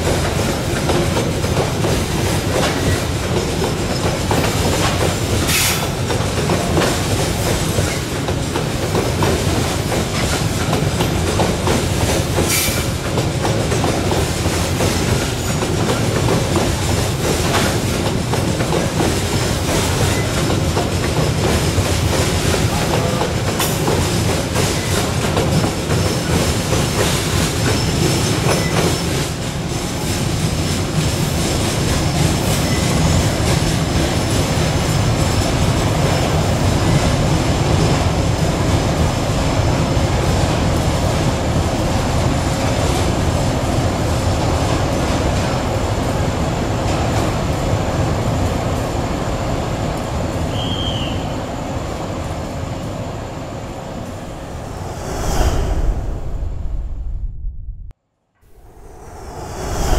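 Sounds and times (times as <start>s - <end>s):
train wheel noise and rail clatter: 0.0s - 57.4s, 58.4s - 59.9s.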